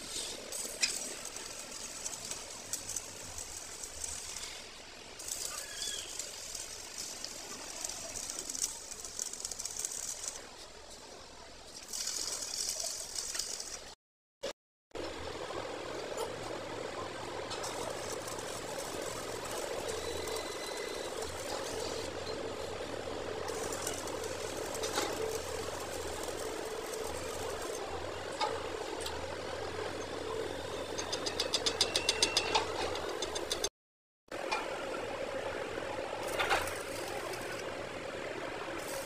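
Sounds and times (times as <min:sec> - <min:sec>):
welding arc crackling and hissing: 0:00.0 - 0:14.0, 0:15.0 - 0:32.0, 0:35.8 - 0:39.0
welding set hum: 0:00.0 - 0:14.0, 0:15.0 - 0:33.7, 0:34.3 - 0:39.0.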